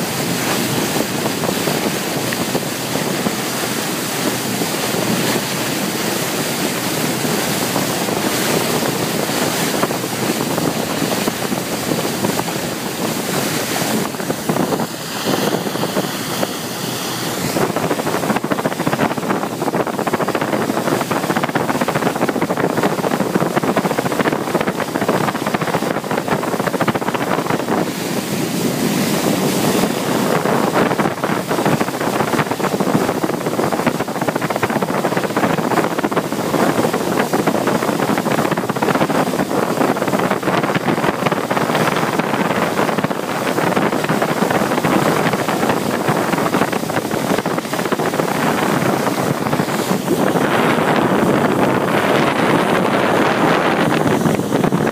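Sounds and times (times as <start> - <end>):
water rushing along hull: 0.0 - 54.9
wind buffeting microphone: 0.0 - 54.9.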